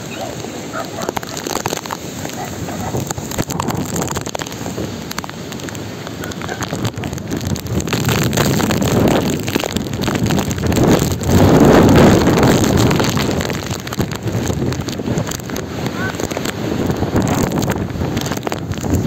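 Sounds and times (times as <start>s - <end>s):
heavy rain: 0.0s - 19.0s
raindrops tapping: 0.0s - 19.0s
strong wind gusts: 0.0s - 19.0s
wind buffeting microphone: 0.0s - 19.0s.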